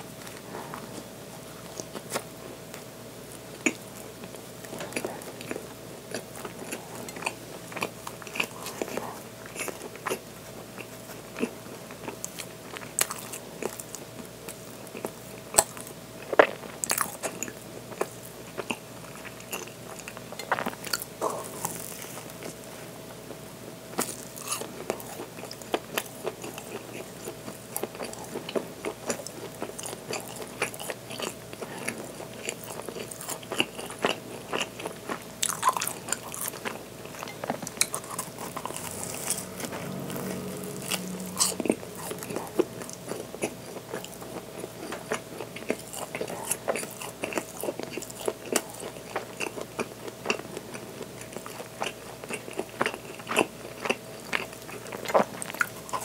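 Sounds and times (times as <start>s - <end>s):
faint steady hum: 0.0s - 56.0s
biting and chewing bread: 0.2s - 22.7s, 23.3s - 56.0s.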